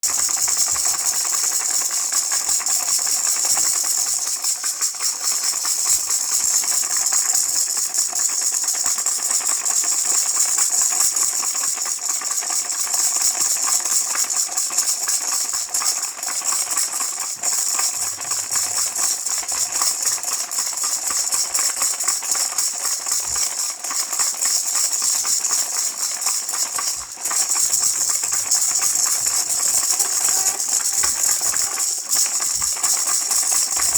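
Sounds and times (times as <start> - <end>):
baby rattle shaking: 0.0 - 33.9.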